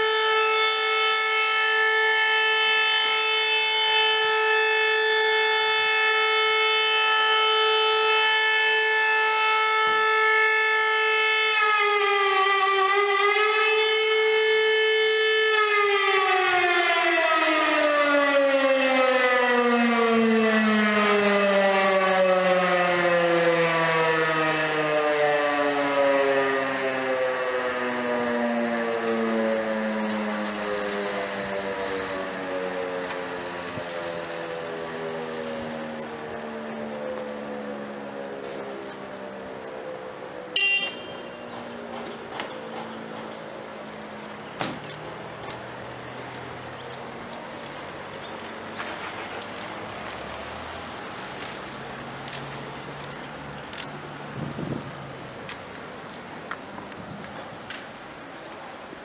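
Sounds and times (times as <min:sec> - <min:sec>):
civil defence siren: 0:00.0 - 0:59.0.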